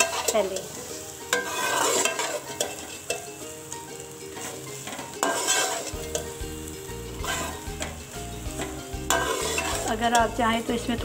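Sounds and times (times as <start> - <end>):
spatula scraping metal pan: 0.0 - 3.3, 4.3 - 6.4, 7.1 - 10.5
rice sizzling in a pan: 0.0 - 11.0.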